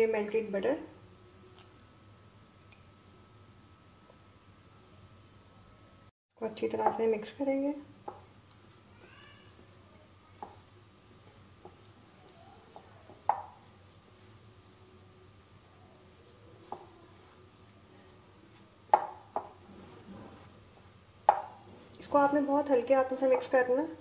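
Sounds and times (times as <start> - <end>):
cricket trill: 0.0 - 24.0.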